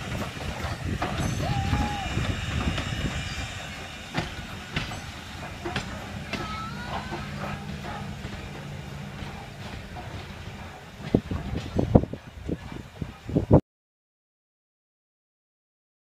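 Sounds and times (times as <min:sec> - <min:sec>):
wheels clacking over rail joints: 0:00.0 - 0:13.4
train cars rolling on track: 0:00.0 - 0:13.6.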